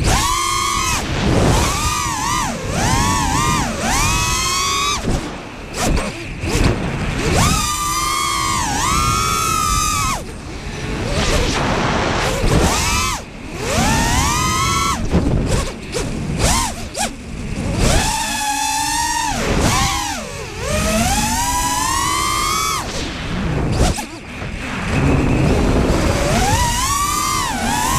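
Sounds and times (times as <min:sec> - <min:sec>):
quadcopter motors whining: 0:00.0 - 0:27.9
rushing wind: 0:00.0 - 0:27.9.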